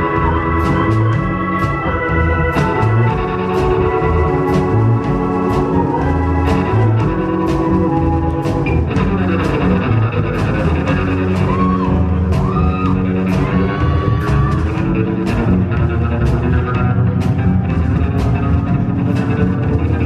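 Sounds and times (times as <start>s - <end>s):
bass guitar: 0.0s - 20.0s
drum kit beat: 0.0s - 20.0s
organ chords: 0.0s - 20.0s.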